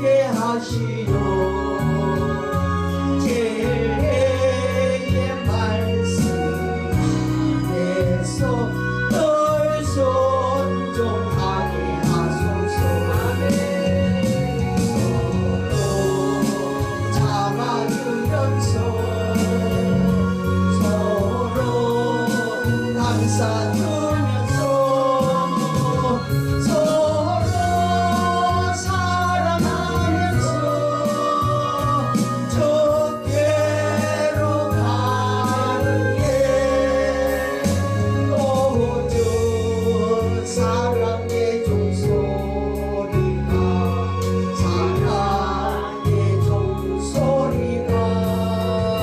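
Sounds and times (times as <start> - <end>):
gospel song with accompaniment: 0.0 - 49.0.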